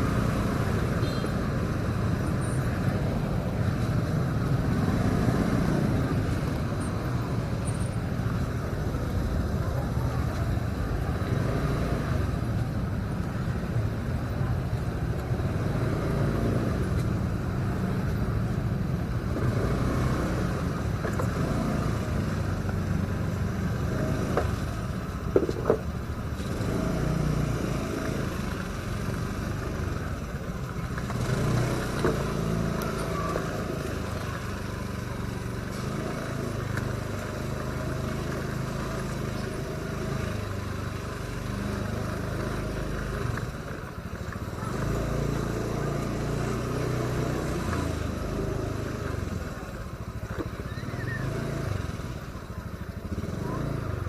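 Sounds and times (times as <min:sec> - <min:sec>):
motorcycle engine running: 0:00.0 - 0:54.0
road and wind noise: 0:00.0 - 0:54.0.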